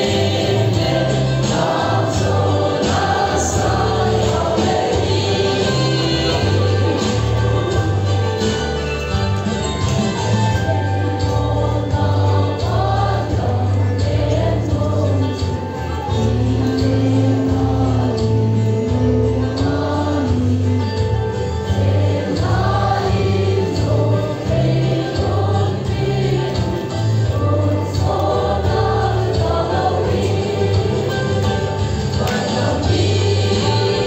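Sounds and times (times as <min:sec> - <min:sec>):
choir singing a hymn: 0:00.0 - 0:08.8, 0:10.6 - 0:34.0.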